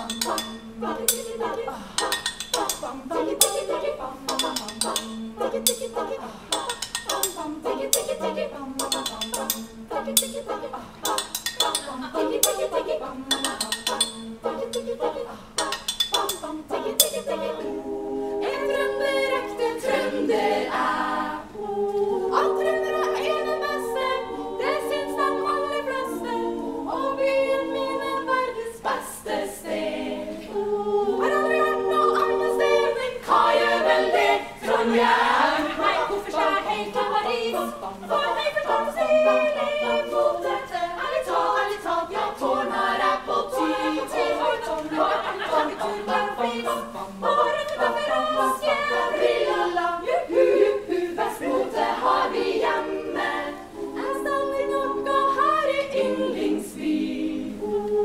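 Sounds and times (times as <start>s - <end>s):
women's choir singing a cappella: 0.0s - 58.0s.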